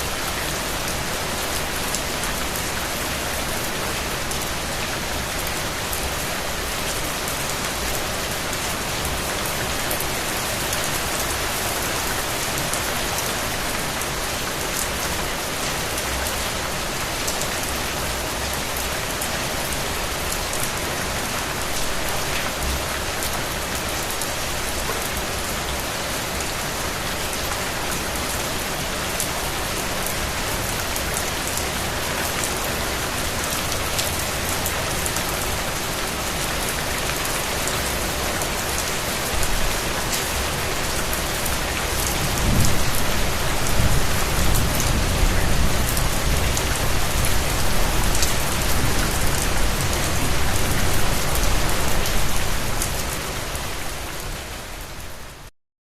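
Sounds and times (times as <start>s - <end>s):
steady rain falling: 0.0s - 55.5s.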